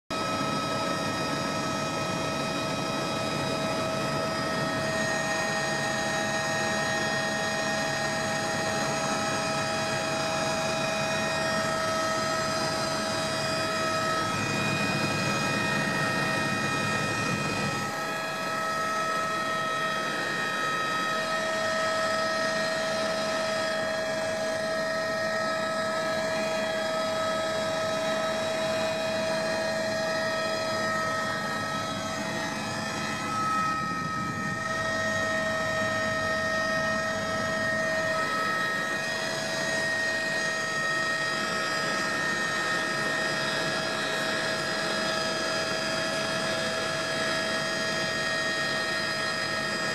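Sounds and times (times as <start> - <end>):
helicopter turbine whine: 0.1 - 49.9.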